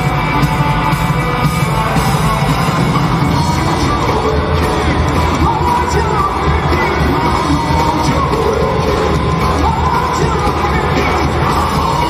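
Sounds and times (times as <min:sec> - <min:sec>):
live rock and roll band: 0:00.0 - 0:12.0.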